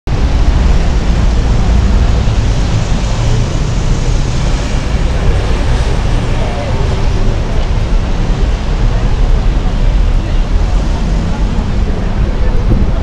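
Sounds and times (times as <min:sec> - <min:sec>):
city traffic rumble: 0:00.1 - 0:13.0.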